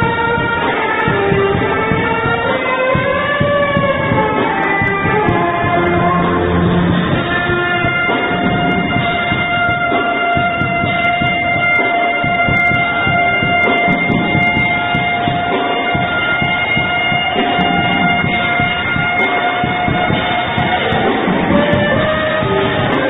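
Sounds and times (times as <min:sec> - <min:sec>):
alto saxophone: 0:00.0 - 0:23.0
backing music: 0:00.0 - 0:23.0.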